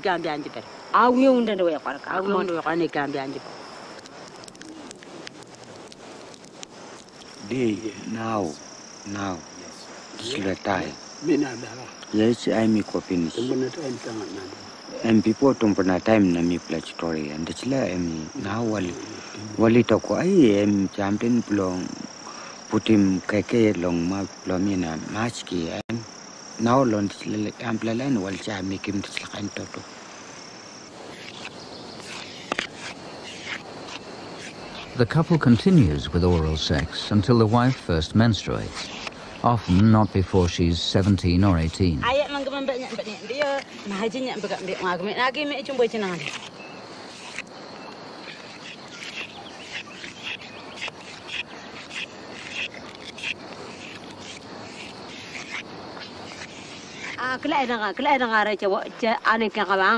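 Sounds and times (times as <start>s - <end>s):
cricket-like insect trill: 0.0s - 59.9s
outdoor hiss: 0.0s - 59.9s
leaves scraping and rustling: 3.3s - 22.0s, 27.1s - 58.5s.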